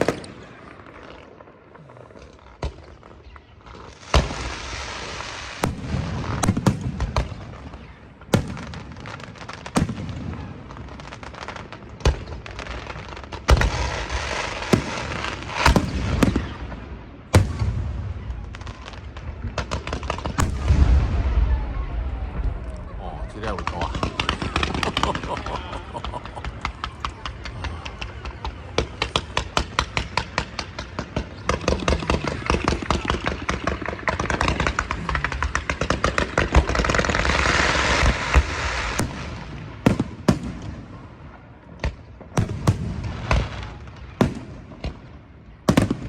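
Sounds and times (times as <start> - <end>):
fireworks bangs: 0.0 - 46.0
fireworks crackling: 0.0 - 46.0.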